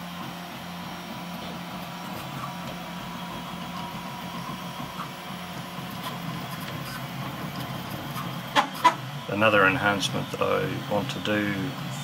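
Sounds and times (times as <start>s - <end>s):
stepper motors humming: 0.0s - 12.0s.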